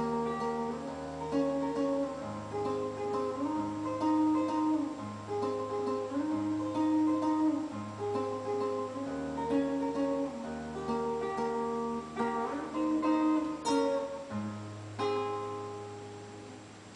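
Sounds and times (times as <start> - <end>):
classical guitar playing: 0.0 - 16.9.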